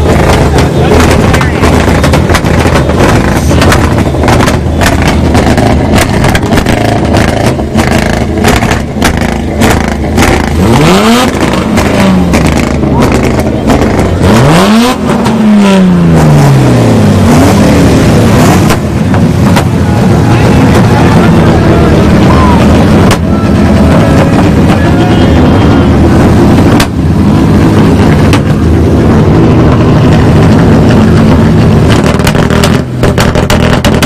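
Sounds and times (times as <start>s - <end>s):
car engines revving loudly: 0.0s - 34.0s.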